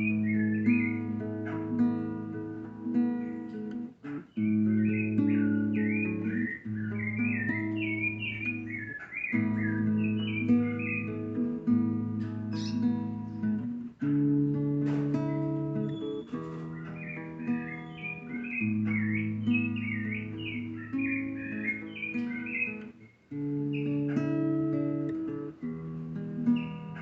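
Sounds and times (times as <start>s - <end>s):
acoustic guitar worship music: 0.0s - 27.0s
birds chirping: 0.0s - 27.0s.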